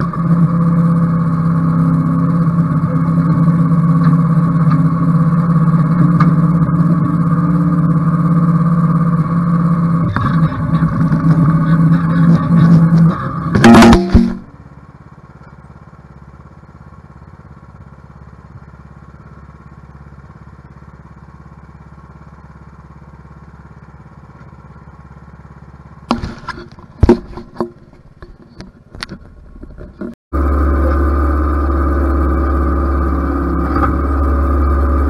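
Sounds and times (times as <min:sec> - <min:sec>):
riding mower engine running: 0:00.0 - 0:35.0.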